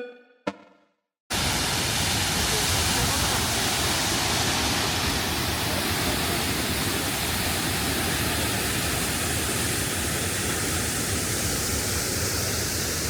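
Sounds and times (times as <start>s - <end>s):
waterfall rushing: 1.3s - 13.0s.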